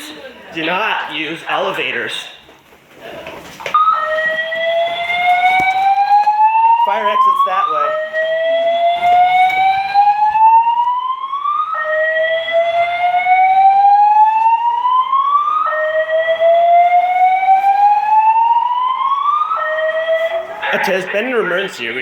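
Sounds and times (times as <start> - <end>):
rising fire alarm tone: 3.7 - 22.0.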